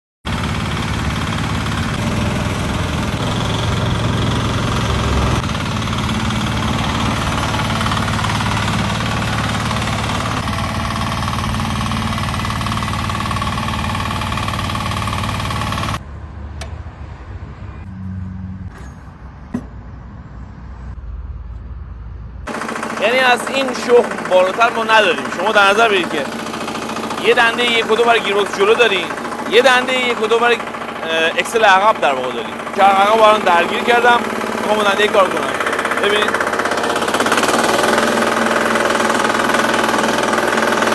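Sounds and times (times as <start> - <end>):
garden tractor engine running: 0.3 - 16.0, 22.5 - 40.9.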